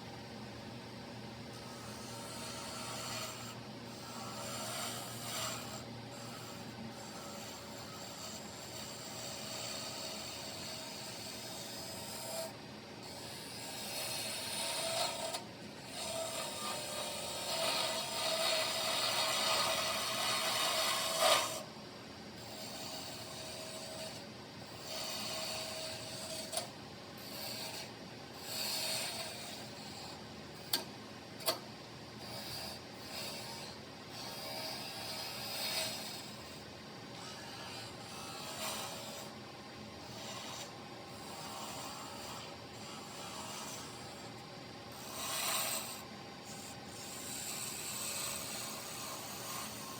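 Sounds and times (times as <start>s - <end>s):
lathe tool scraping wood: 1.6s - 21.7s, 22.4s - 30.8s, 32.2s - 36.6s, 37.2s - 49.9s.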